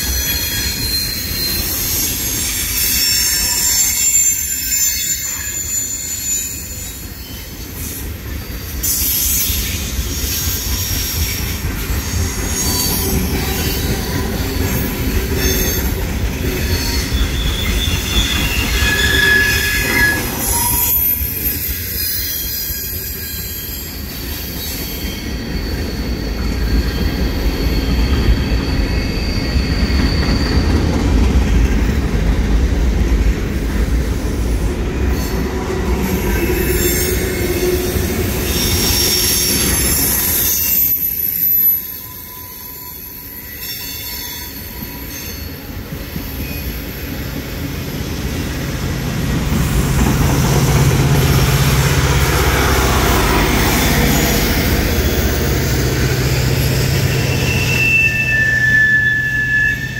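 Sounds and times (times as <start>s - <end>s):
high-pitched wheel squeal: 0.0s - 31.3s, 35.0s - 47.2s, 49.5s - 59.9s
rumble of steel wheels on rail: 0.0s - 59.9s.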